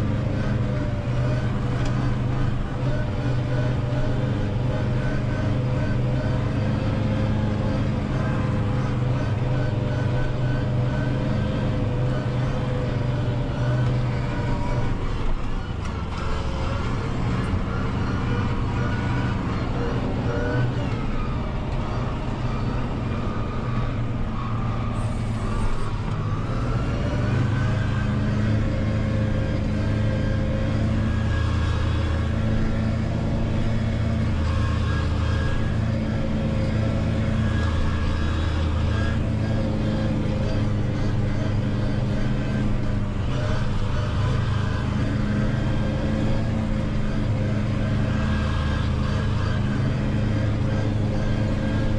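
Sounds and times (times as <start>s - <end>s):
tractor engine under load: 0.0s - 51.9s.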